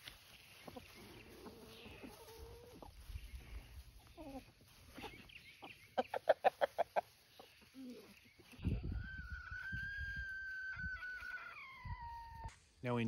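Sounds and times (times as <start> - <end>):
chickens clucking: 0.0 - 12.5.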